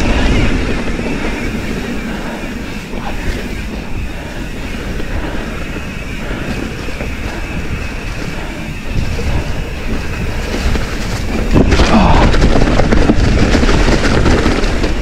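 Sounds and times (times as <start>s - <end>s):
bike tyres rumbling on dirt: 0.0s - 15.0s
wind buffeting microphone: 0.0s - 15.0s.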